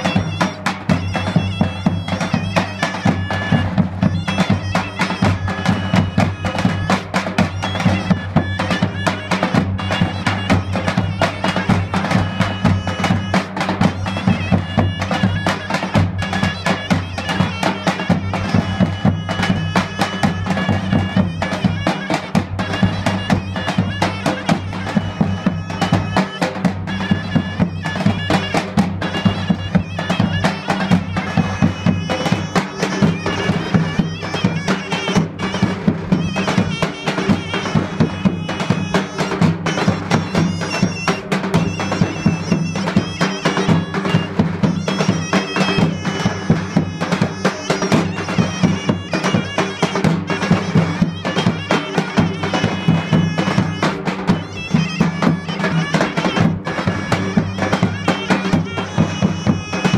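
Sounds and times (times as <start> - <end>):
zurna melody: 0.0 - 59.9.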